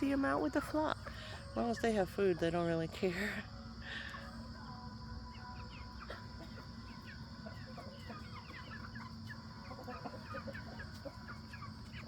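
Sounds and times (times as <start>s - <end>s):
hens clucking: 0.0s - 12.0s
young chickens cheeping: 0.0s - 12.0s.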